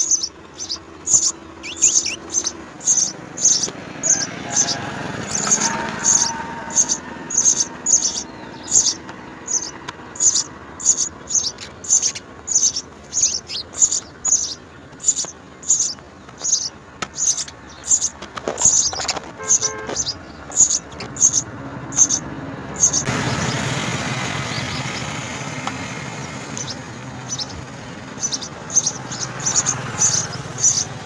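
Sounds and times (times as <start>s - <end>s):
sparrows chirping: 0.0s - 31.0s.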